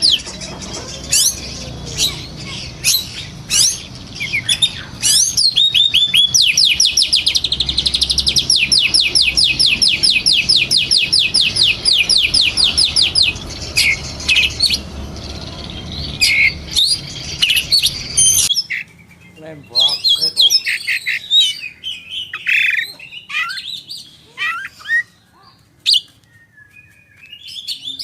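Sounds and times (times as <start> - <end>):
bird singing rapid high notes: 0.0 - 25.2
sharp bird calls: 0.0 - 28.0.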